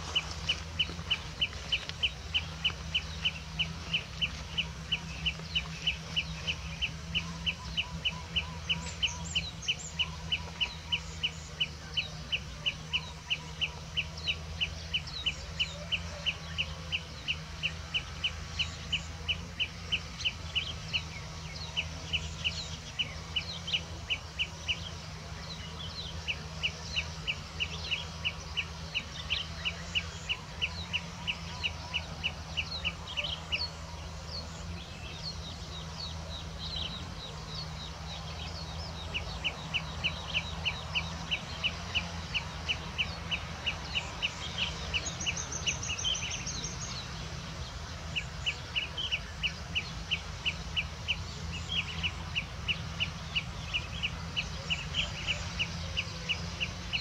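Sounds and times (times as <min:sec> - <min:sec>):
other birds chirping: 0:00.0 - 0:57.0.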